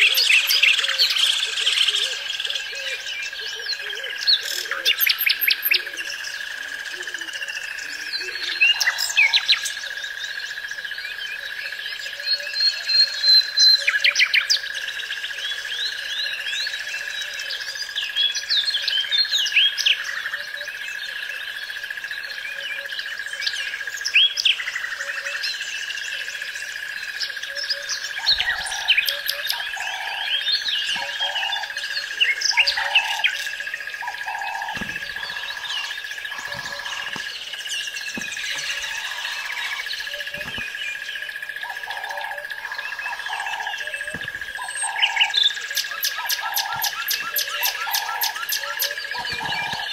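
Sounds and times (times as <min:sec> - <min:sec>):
nightingale singing: 0:00.0 - 0:49.9.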